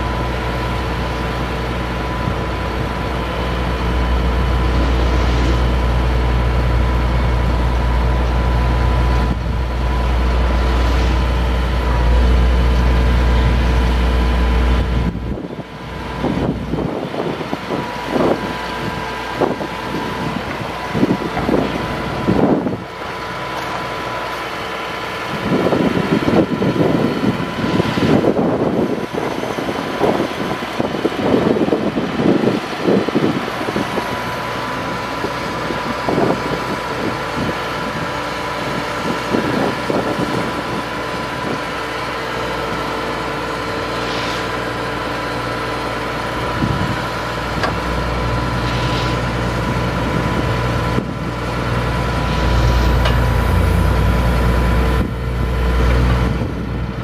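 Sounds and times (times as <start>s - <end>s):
hydraulics whining: 0.0s - 57.0s.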